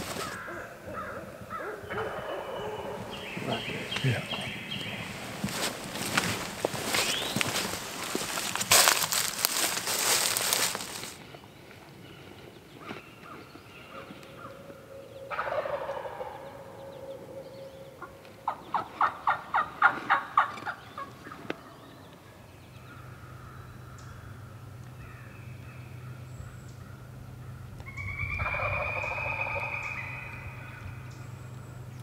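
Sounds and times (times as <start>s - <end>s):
wild turkeys calling: 0.0s - 11.4s, 12.0s - 32.0s.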